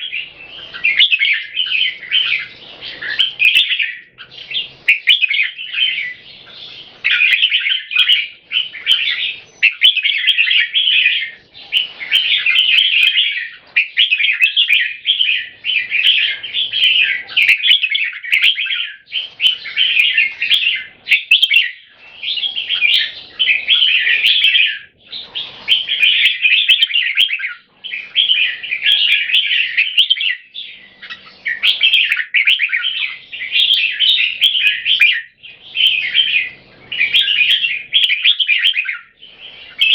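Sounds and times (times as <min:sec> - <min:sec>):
birds singing warbled song: 0:00.0 - 0:39.9.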